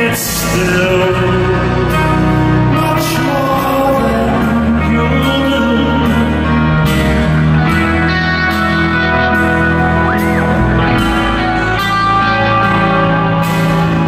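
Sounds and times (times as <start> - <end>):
guitars: 0.0 - 14.0
live rock band playing: 0.0 - 14.0.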